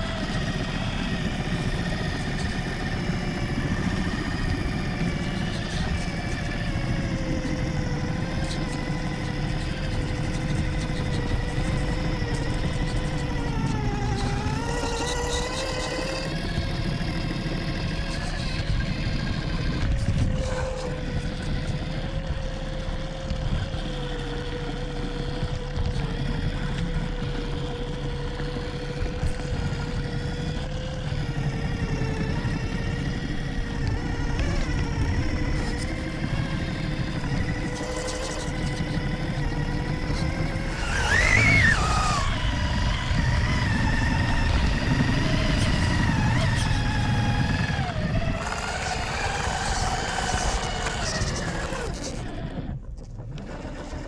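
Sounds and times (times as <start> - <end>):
electric motor whining: 0.0 - 54.0
low rough rumble: 0.0 - 54.0.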